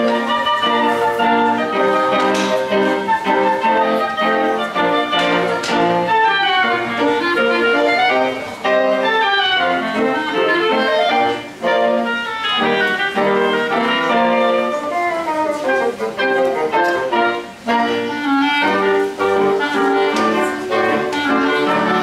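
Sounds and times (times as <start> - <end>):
woodwind ensemble and piano: 0.0 - 22.0.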